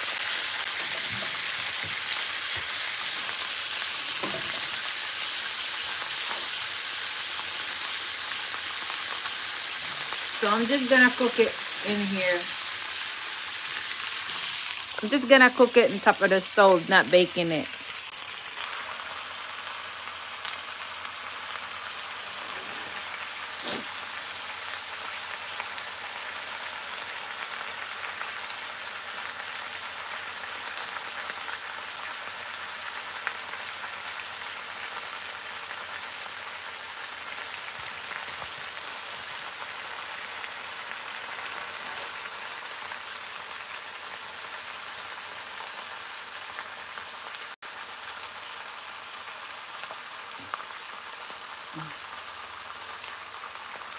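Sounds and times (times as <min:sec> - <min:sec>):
meat sizzling in a skillet: 0:00.0 - 0:53.9.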